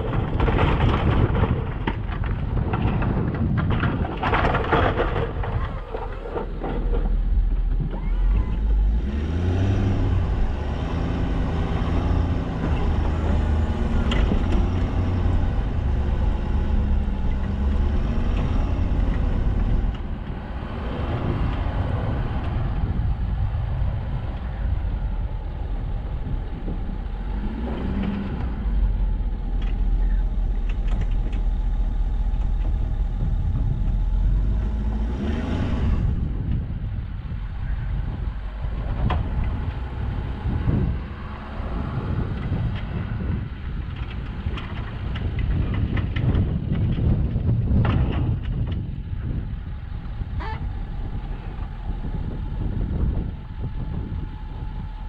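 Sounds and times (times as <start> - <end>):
truck engine revving: 6.3 - 55.0.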